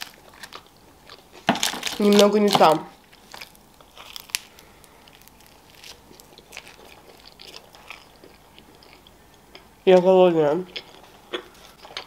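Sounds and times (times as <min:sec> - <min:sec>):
chewing pizza crunches: 0:00.0 - 0:09.7.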